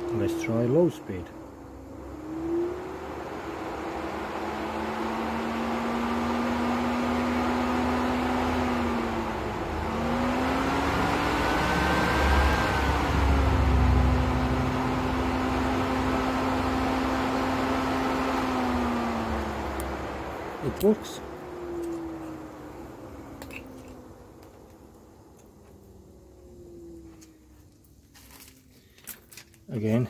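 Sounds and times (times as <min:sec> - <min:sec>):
radiator cooling fan whirring: 0:00.0 - 0:30.0.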